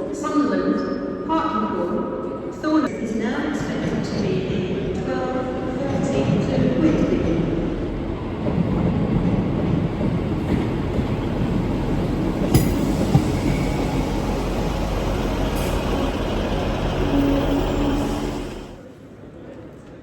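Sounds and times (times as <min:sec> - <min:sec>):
train engine and wheels rumbling: 0:03.0 - 0:20.0.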